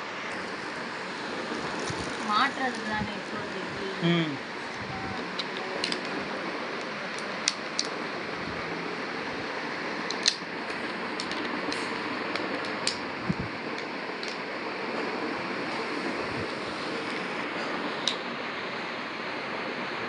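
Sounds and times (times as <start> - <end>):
fan whirring hiss: 0.0 - 20.0.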